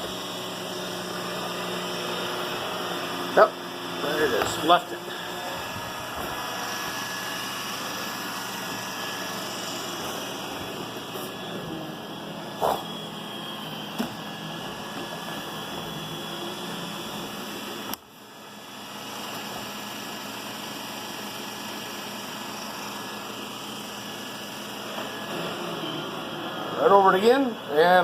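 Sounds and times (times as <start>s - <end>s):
robot vacuum whirring over carpet: 0.0s - 28.0s.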